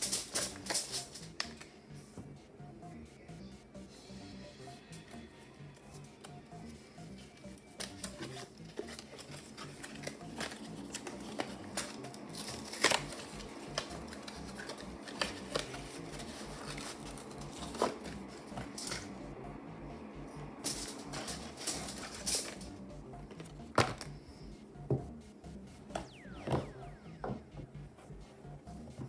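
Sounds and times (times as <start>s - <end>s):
quiet background music: 0.0s - 29.0s.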